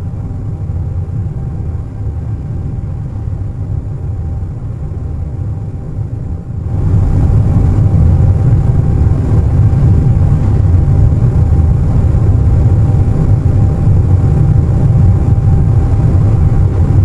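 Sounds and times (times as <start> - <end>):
airliner engine and airflow rumble: 0.0 - 17.0.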